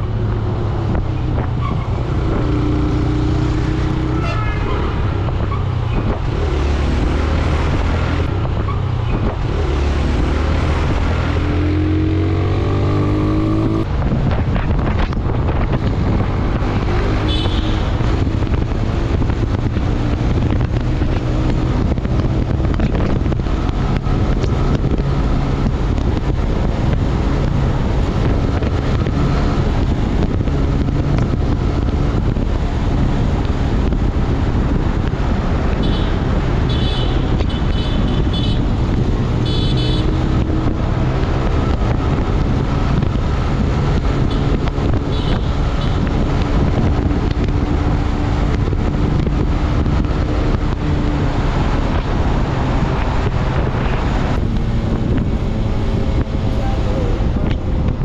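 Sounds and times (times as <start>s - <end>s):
road noise rushing: 0.0s - 58.0s
motorcycle engine running: 11.5s - 58.0s.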